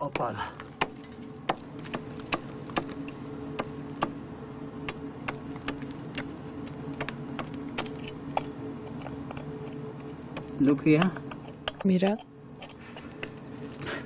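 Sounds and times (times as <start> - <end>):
constant low hum: 0.0 - 14.0.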